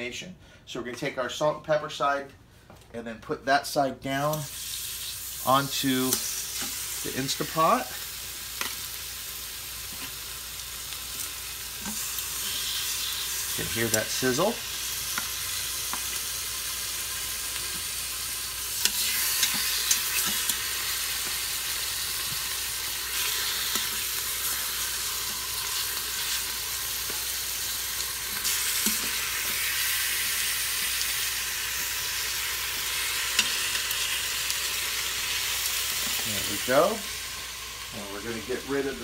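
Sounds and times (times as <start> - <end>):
chicken sizzling in oil: 4.3 - 39.0.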